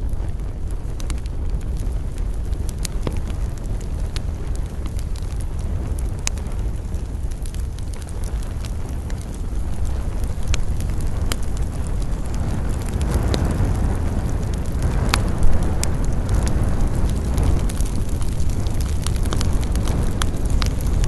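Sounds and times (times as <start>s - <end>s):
campfire crackling and popping: 0.0s - 21.0s
low rumble of flames: 0.0s - 21.0s
wind: 0.0s - 21.0s.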